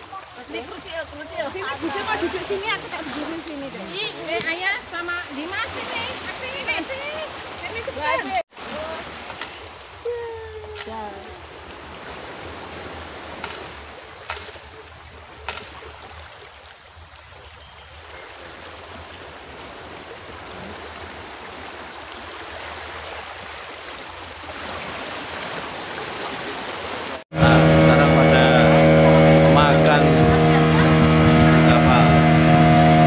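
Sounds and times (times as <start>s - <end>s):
surf washing onto beach: 0.0s - 14.5s, 19.6s - 33.0s.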